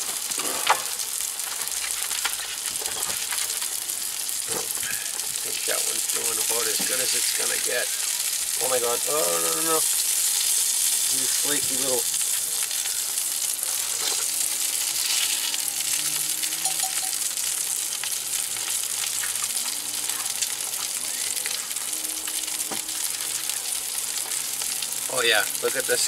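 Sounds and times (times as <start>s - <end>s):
fish fillet sizzling in butter: 0.0s - 26.0s.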